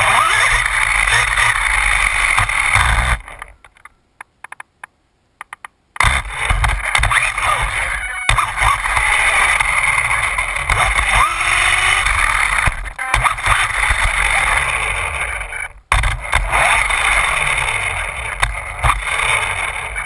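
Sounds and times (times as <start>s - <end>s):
rc car motor whine: 0.0s - 3.5s, 6.0s - 20.0s
clicks: 0.5s - 17.2s.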